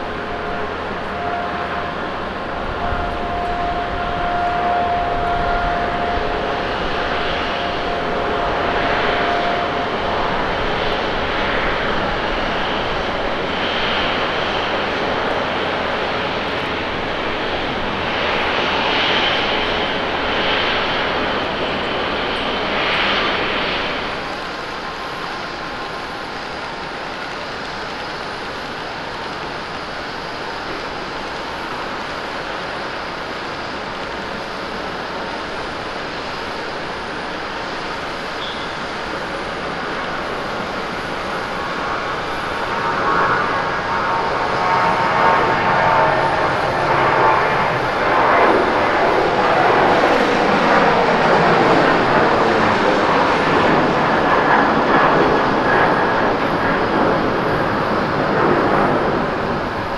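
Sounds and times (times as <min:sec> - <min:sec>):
jet engine idling: 0:00.0 - 0:59.9
jet engines on landing roll: 0:00.0 - 0:59.9.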